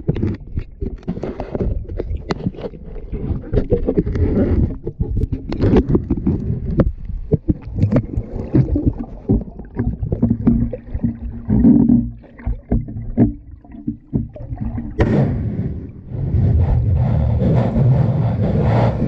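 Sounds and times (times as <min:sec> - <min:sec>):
underwater knocks and clicks: 0:00.0 - 0:15.4
underwater low rumble: 0:00.0 - 0:19.0.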